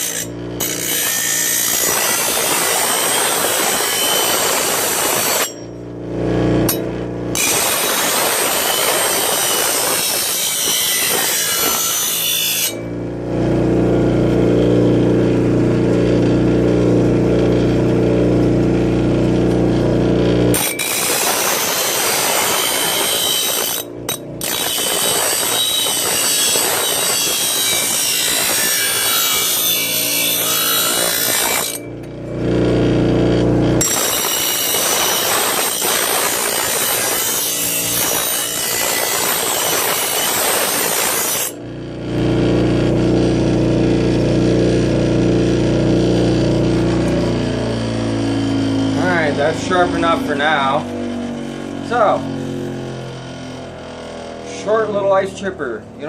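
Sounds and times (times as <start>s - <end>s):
grinder grinding steel blade: 0.0s - 56.0s
grinder motor humming: 0.0s - 56.0s.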